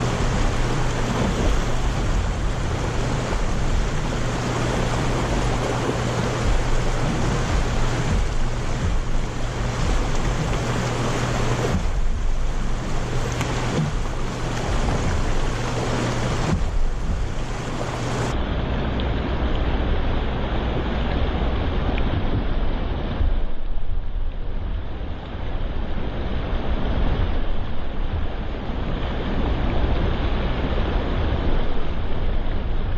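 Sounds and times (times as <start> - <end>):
river rapids roaring: 0.0 - 32.9
steady low hum: 0.0 - 32.9
wind buffeting microphone: 0.0 - 32.9.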